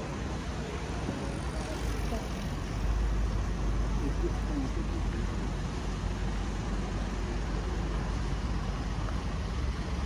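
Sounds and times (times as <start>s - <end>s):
city traffic rumble: 0.0s - 10.0s.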